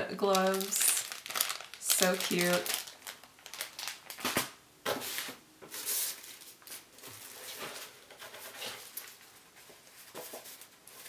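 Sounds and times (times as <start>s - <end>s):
packaging rustling and crinkling: 0.3s - 11.0s.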